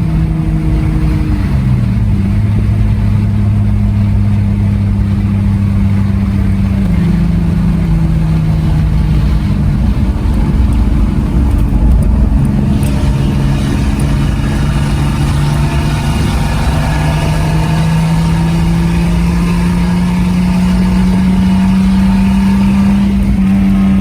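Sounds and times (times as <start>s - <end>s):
car engine droning loud: 0.0s - 24.0s.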